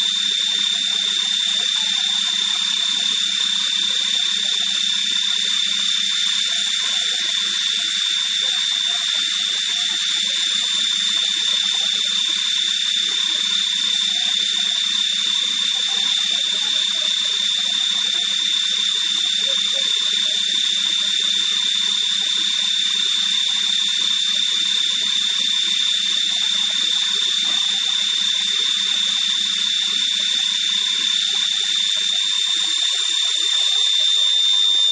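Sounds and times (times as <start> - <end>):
high steady whine: 0.0 - 34.9.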